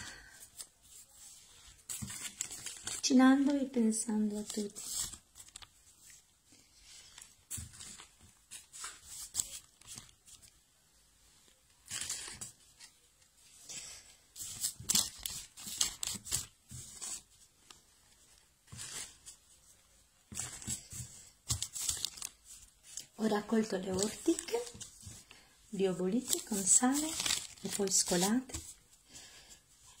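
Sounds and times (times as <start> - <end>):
paper rustling and crinkling: 0.0 - 10.6, 11.4 - 30.0.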